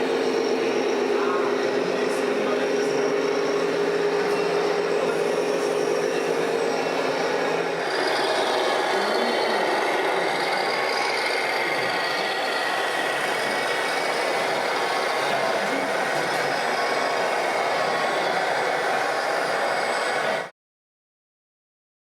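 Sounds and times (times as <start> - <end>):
toy truck motor and gear whine: 0.0 - 20.5.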